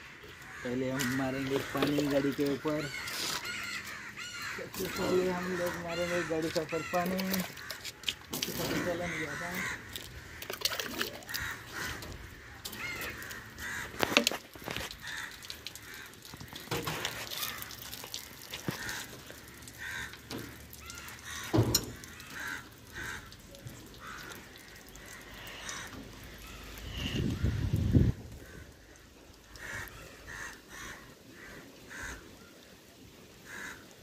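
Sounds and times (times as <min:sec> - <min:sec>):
crows cawing: 0:00.0 - 0:34.0
water splashing against truck cab: 0:00.6 - 0:28.1.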